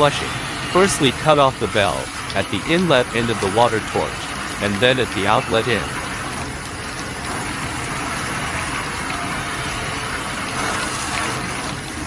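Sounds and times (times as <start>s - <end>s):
water rushing from flushing: 0.0s - 12.0s.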